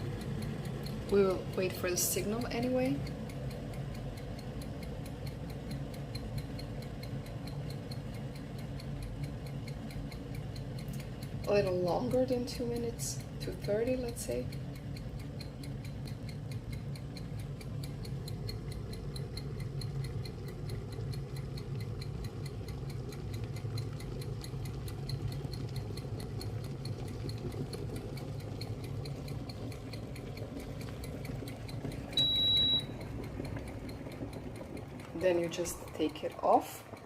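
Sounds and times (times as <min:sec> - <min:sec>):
fast ticking: 0:00.0 - 0:37.0
kettle heating water rumble: 0:00.0 - 0:37.0.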